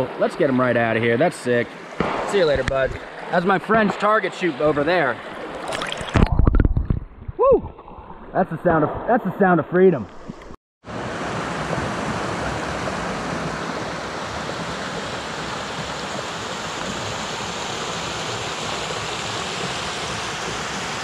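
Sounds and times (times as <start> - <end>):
stream running over rocks: 0.0 - 6.8, 10.9 - 21.0.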